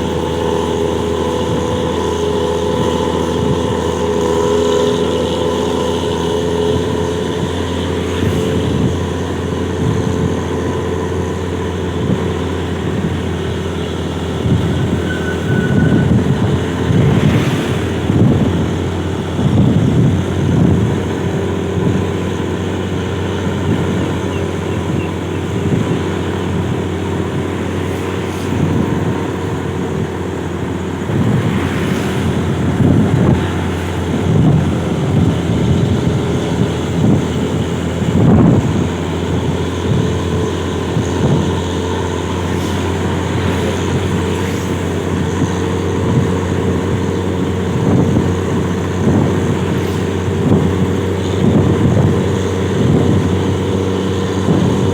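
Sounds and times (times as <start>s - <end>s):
bus engine droning: 0.0s - 54.9s.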